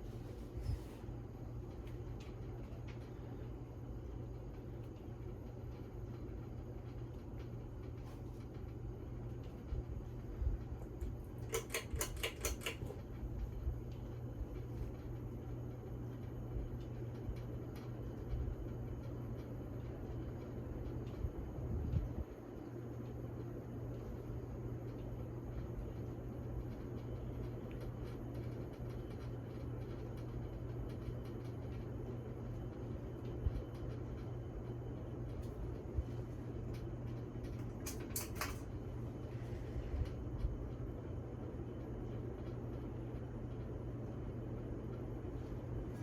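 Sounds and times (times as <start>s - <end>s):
ceiling fan motor humming: 0.0s - 46.0s.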